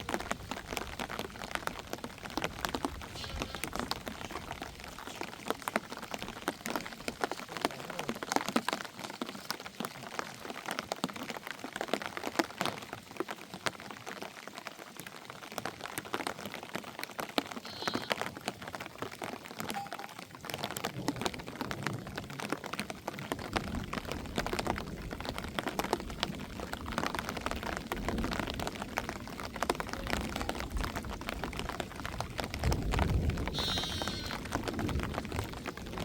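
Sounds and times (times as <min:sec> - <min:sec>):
rain pattering hard: 0:00.0 - 0:36.0.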